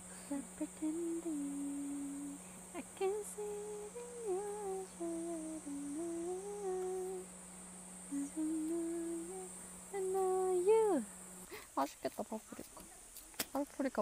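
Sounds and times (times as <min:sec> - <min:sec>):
woman humming: 0:00.0 - 0:07.3, 0:08.1 - 0:12.8.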